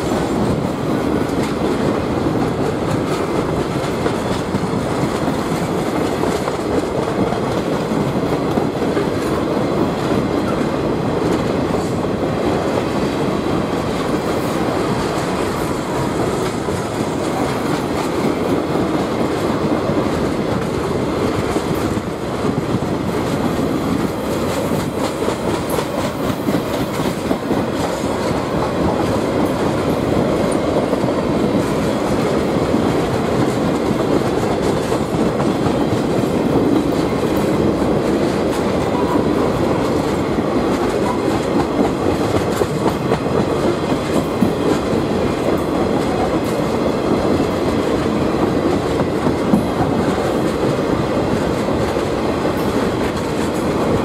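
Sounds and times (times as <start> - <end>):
rumble of steel train wheels: 0.0 - 54.0.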